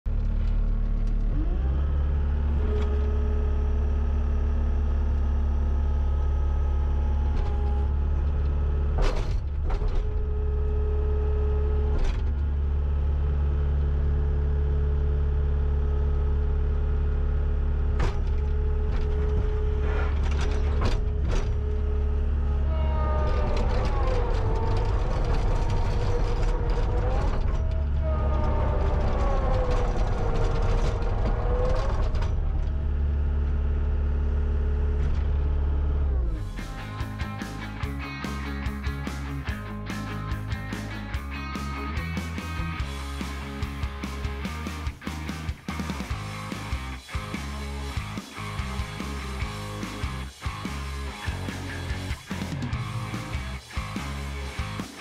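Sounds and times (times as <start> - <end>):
diesel engine running: 0.1 - 55.0.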